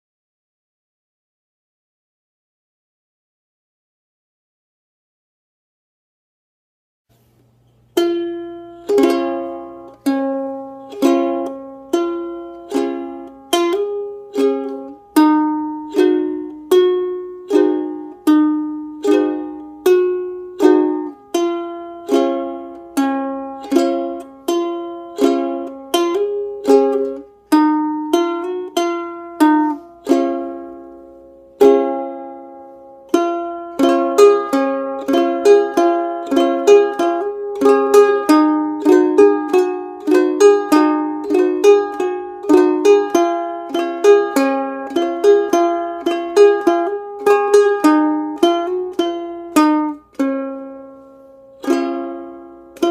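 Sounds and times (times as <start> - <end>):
ukulele strumming: 7.2 - 52.9.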